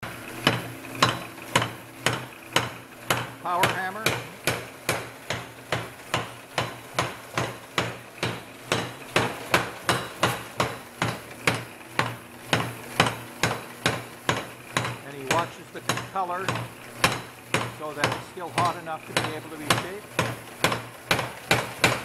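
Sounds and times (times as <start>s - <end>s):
machine humming: 0.0s - 22.0s
power hammer striking steel: 0.1s - 22.0s.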